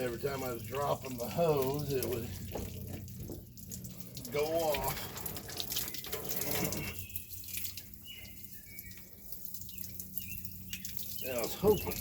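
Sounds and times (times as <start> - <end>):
garden hose water splashing: 0.0 - 12.0.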